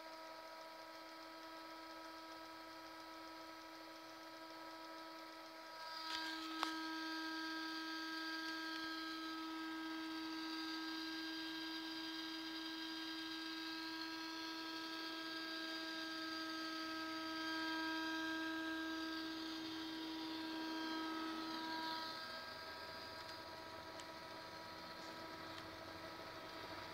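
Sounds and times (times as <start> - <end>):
steady electrical hum: 0.0 - 26.9
high wavering whine: 0.8 - 26.9.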